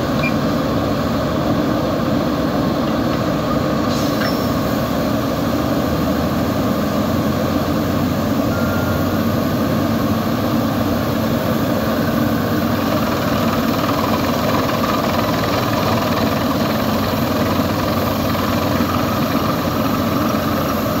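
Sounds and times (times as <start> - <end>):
drilling rig engine drone: 0.0 - 21.0.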